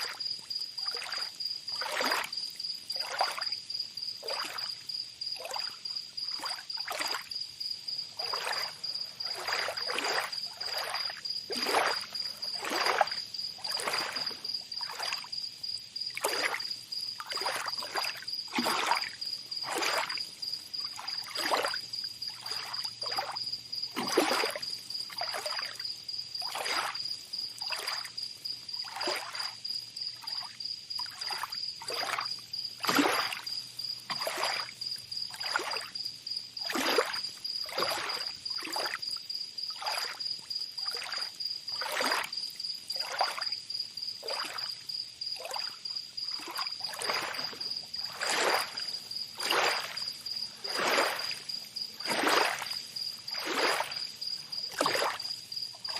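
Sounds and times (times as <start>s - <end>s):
small waves lapping: 0.0s - 3.6s, 4.2s - 43.6s, 44.2s - 55.9s
high pulsing insect trill: 0.0s - 55.9s.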